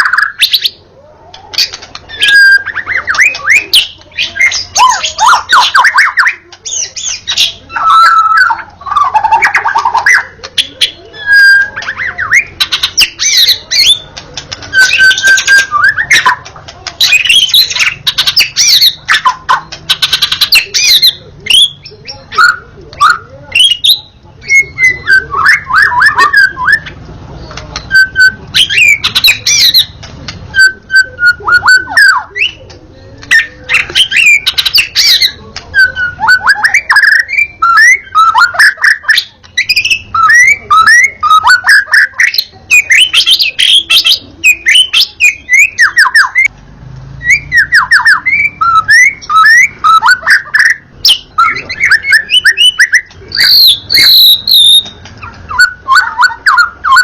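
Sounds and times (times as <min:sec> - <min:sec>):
songbird singing whistles and clicks: 0:00.0 - 0:46.5, 0:47.2 - 0:57.0.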